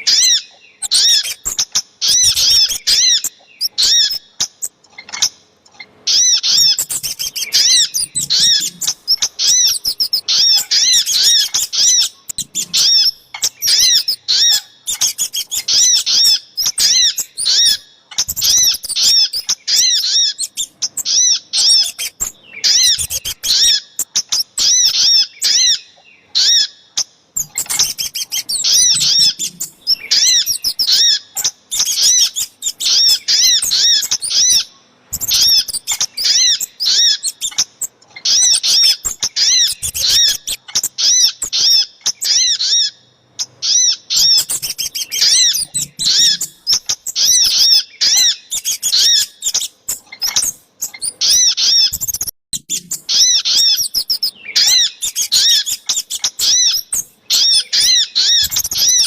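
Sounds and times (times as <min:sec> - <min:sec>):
high chip notes of birds: 0:00.0 - 0:59.0.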